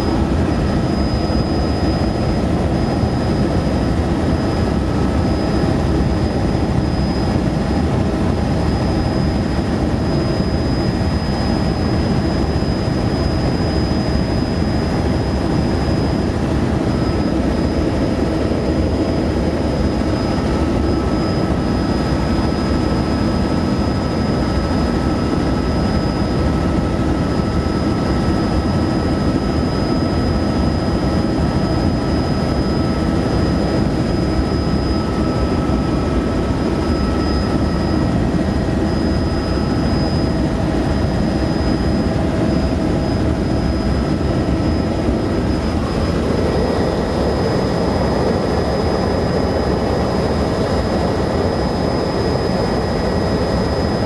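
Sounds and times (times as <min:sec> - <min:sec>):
helicopter engine and rotors: 0:00.0 - 0:54.0
high whine: 0:00.0 - 0:54.0.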